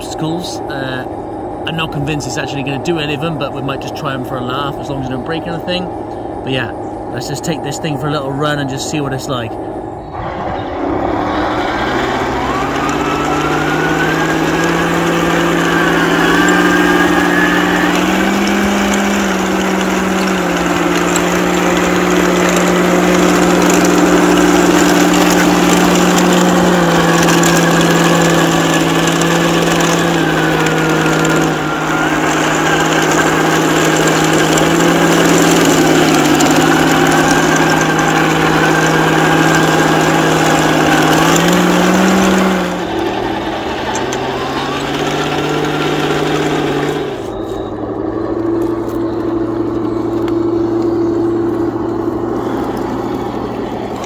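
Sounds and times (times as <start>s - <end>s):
drive motor whine: 0.0s - 54.0s
simulated tank engine sound: 0.0s - 54.0s.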